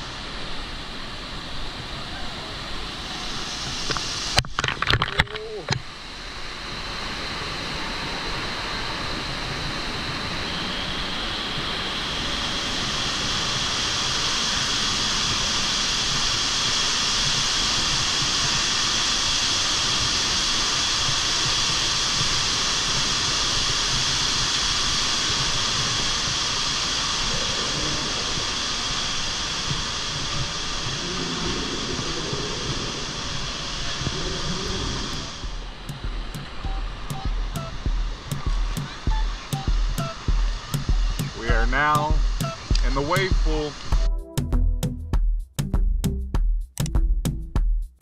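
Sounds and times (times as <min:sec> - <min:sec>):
waterfall rushing and hissing: 0:00.0 - 0:44.1.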